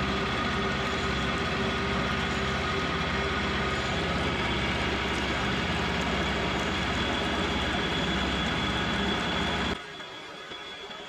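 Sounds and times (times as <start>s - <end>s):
milling machine cutting steel: 0.0s - 9.8s.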